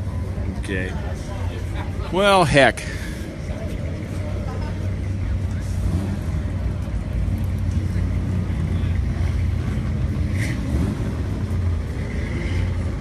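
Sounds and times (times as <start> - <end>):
faint voices: 0.0 - 10.5
car engine running: 0.0 - 13.0.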